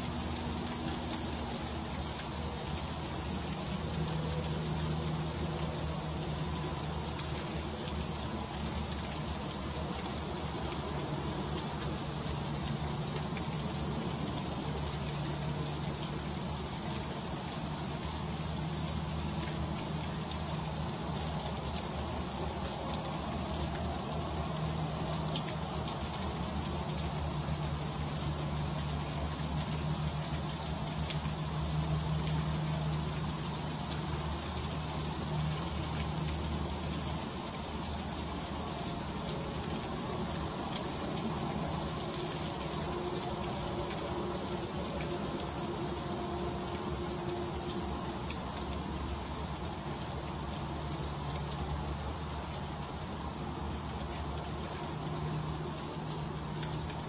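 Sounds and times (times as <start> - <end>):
freezing rain falling: 0.0 - 57.0.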